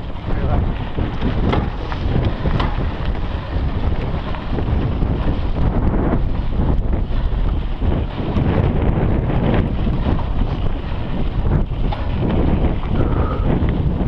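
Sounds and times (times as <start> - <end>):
bike clicks and rattles: 0.0 - 14.0
wind rushing over microphone: 0.0 - 14.0.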